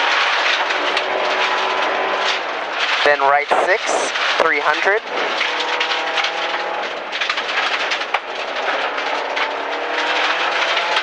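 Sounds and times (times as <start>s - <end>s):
loud road noise: 0.0s - 11.0s
rally car engine revving: 0.0s - 11.0s.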